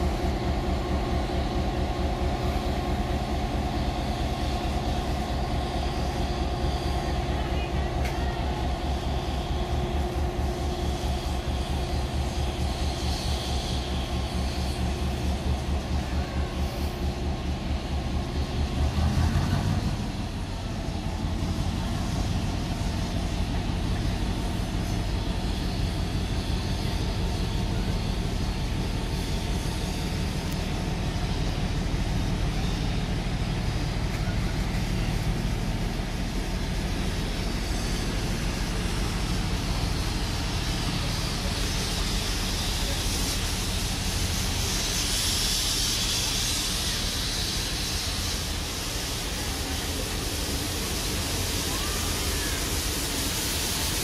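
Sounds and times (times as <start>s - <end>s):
diesel locomotive engine drone: 0.0s - 54.0s
train wheels rumbling on rails: 0.0s - 54.0s.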